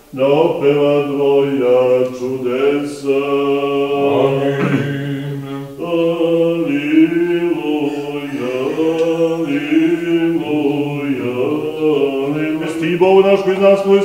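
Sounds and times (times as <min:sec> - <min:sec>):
man chanting a prayer: 0:00.1 - 0:14.0.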